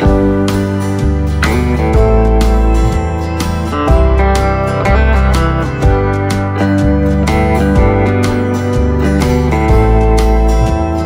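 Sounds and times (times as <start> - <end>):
bass line: 0.0 - 11.0
plucked guitar: 0.0 - 11.0.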